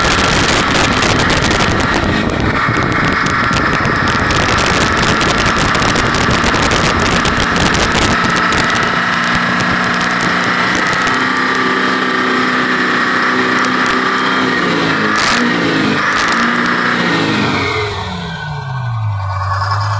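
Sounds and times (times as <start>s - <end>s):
diesel truck engine running loudly: 0.0s - 19.9s.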